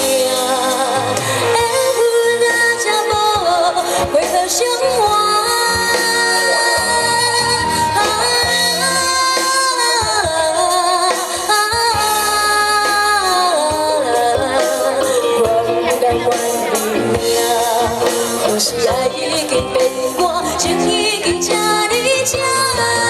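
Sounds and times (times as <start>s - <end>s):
live band playing pop song: 0.0s - 23.0s
woman singing: 0.0s - 23.0s.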